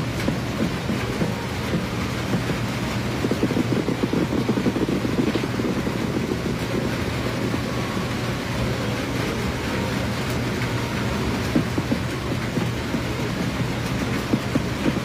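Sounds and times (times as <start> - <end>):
fireworks rumbling and crackling: 0.0 - 15.0.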